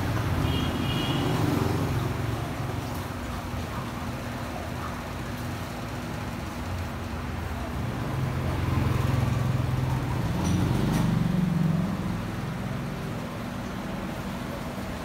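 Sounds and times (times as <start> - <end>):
passing vehicle engines hum: 0.0 - 15.0.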